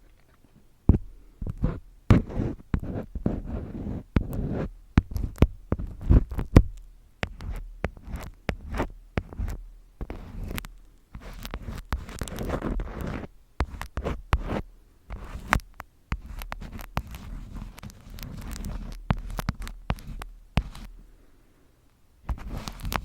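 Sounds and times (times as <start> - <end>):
rustling and scraping: 0.0 - 21.1, 22.2 - 23.0.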